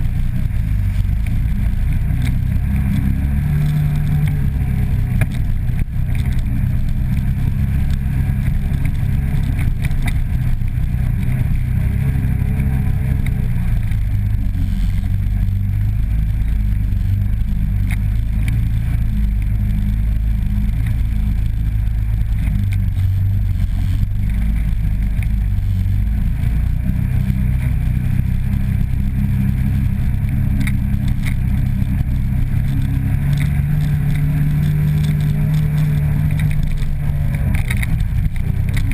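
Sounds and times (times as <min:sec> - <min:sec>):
atv engine revving: 0:00.0 - 0:38.9
knocks and rattles over bumps: 0:00.0 - 0:38.9.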